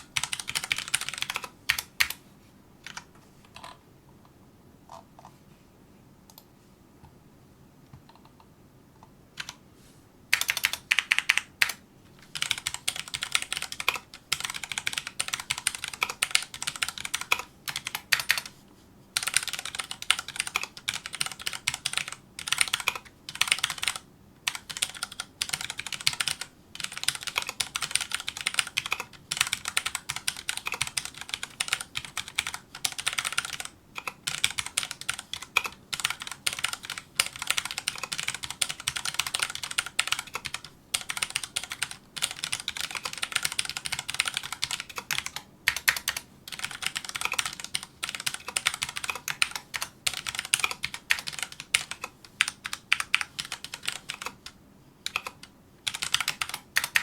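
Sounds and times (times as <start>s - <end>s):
fast mechanical keyboard typing: 0.0s - 2.2s, 9.4s - 9.6s, 10.3s - 18.5s, 19.2s - 57.0s.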